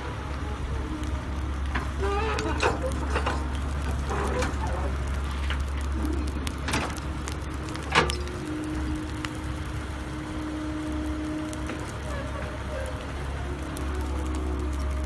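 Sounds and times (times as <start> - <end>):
excavator diesel engine rumbling: 0.0 - 15.0
steady whine: 0.0 - 15.0
sharp cracks: 0.9 - 15.0.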